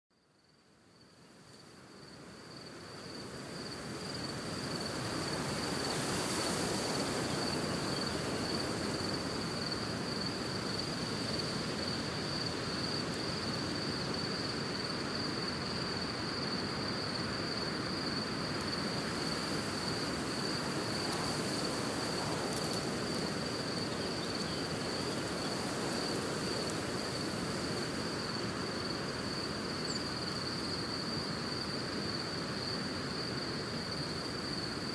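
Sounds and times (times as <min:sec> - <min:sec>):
crickets trilling: 0:00.2 - 0:34.9.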